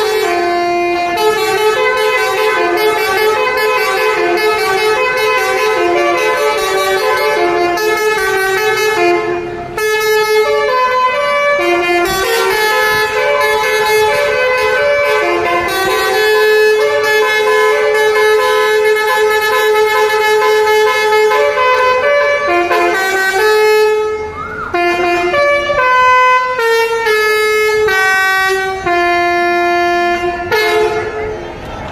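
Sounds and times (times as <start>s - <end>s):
multi-tone air horn melody: 0.0s - 31.7s.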